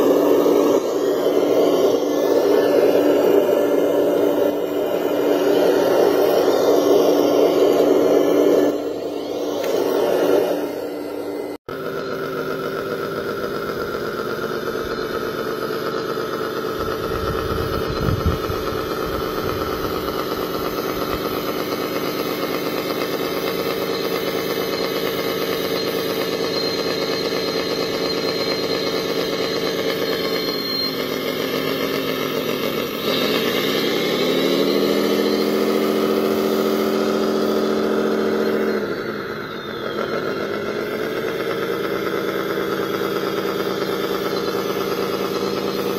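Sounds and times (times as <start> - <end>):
toy wheel loader engine running: 0.0 - 45.9.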